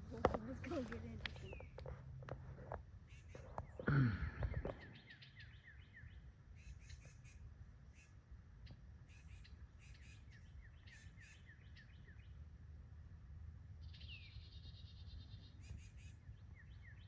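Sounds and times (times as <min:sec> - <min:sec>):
songbirds chip calls: 0:00.0 - 0:12.7, 0:13.8 - 0:17.0.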